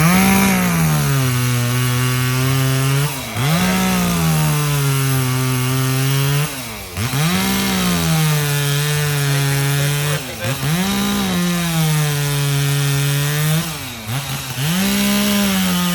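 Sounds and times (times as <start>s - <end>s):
chainsaw cutting log: 0.0s - 15.9s.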